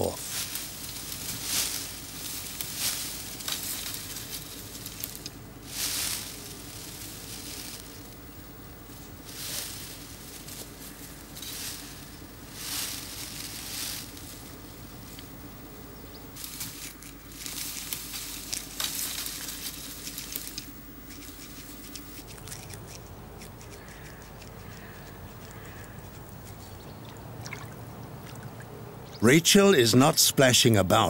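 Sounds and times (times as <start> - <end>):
rustling and crunching in twigs: 0.0 - 15.6, 16.4 - 28.6.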